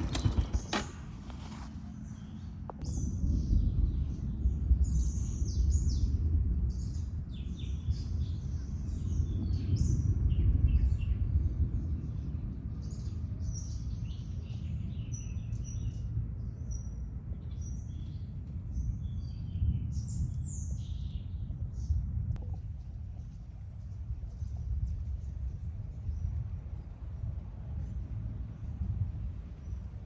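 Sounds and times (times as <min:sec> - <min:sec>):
low rumble: 0:02.1 - 0:30.0.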